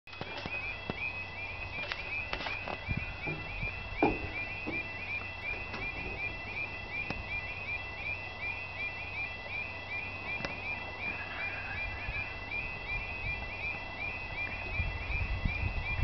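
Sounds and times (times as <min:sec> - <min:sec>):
level crossing alarm warbling: 0:00.1 - 0:16.0.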